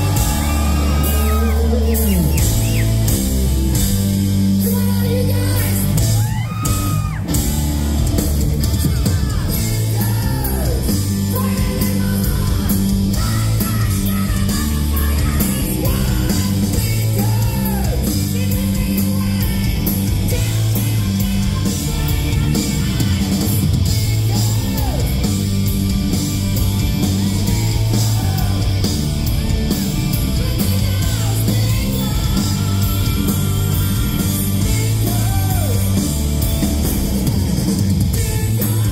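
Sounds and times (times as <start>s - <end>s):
man singing and yelling: 0.0s - 3.0s, 4.6s - 7.4s, 8.3s - 25.3s, 27.2s - 28.9s, 29.5s - 36.2s, 38.1s - 38.9s
bass: 0.0s - 38.9s
drums: 0.0s - 38.9s
electric guitars: 0.0s - 38.9s.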